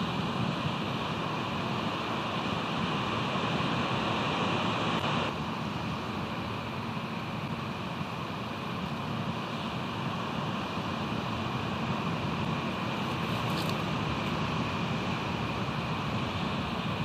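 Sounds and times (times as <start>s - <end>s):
ocean surf: 0.0s - 17.0s.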